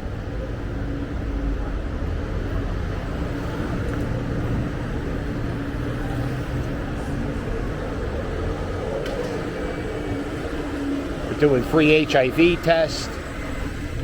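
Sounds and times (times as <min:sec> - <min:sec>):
motor drone: 0:00.0 - 0:14.0
street noise: 0:00.0 - 0:14.0.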